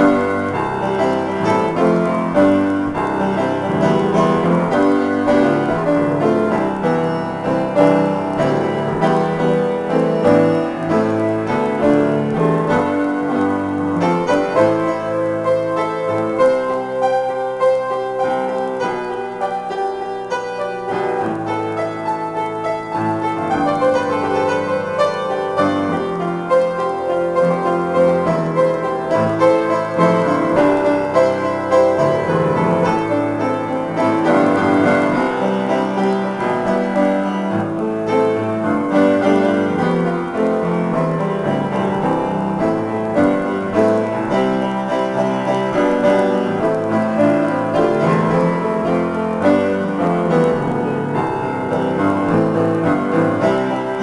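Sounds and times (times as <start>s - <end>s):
upright piano improvisation: 0.0s - 54.0s.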